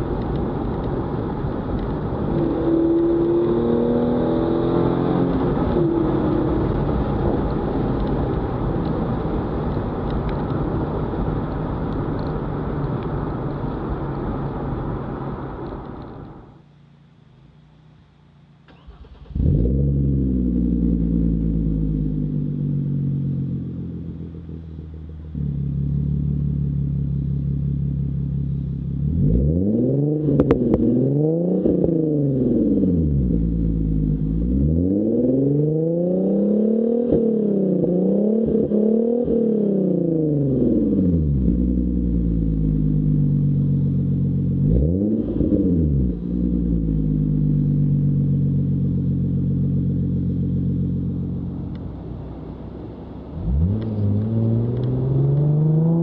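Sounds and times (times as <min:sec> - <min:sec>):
car engine starting and revving: 0:00.0 - 0:16.5, 0:18.6 - 0:56.0.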